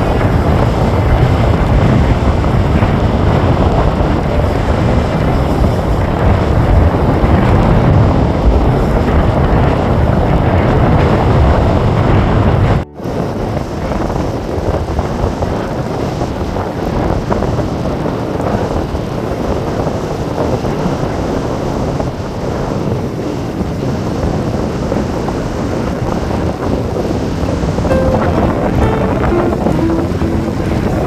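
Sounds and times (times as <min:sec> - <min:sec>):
wind buffeting the microphone: 0:00.0 - 0:27.9.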